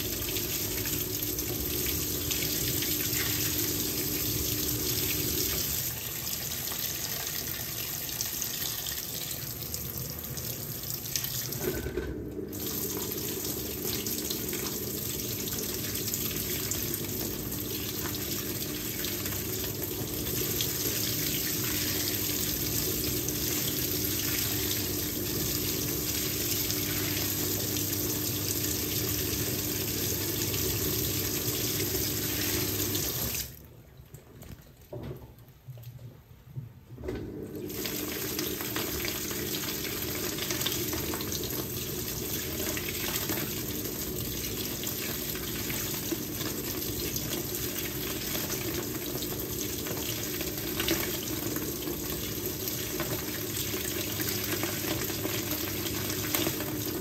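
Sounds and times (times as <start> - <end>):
water running into washing machine: 0.0 - 34.3, 37.0 - 57.0.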